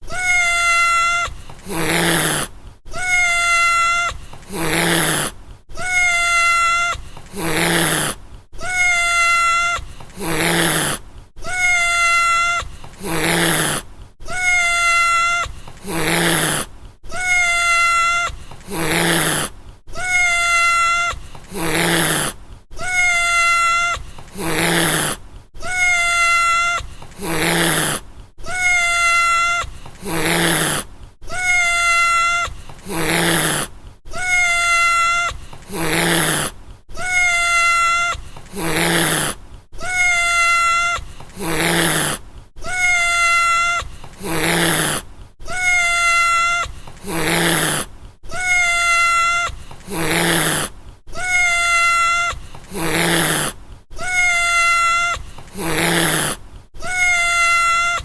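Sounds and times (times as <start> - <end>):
cat hissing: 0.0 - 58.0
cat meowing: 0.0 - 58.0.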